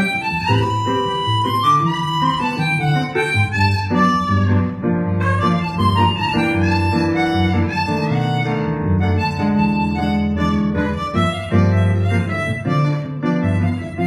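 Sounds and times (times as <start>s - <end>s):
bowed violin melody: 0.0s - 14.0s
guitar accompaniment: 0.0s - 14.0s
low bass line: 0.0s - 14.0s.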